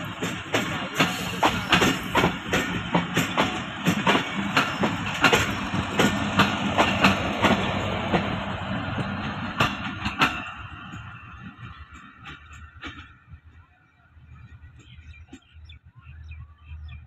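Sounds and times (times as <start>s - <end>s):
train wheels clickety-clack: 0.0s - 13.7s
train rumble: 0.0s - 17.0s.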